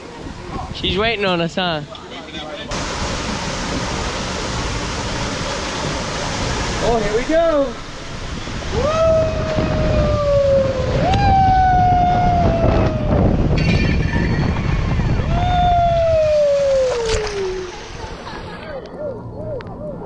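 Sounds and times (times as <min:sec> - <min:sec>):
rushing water and air: 0:00.0 - 0:18.8.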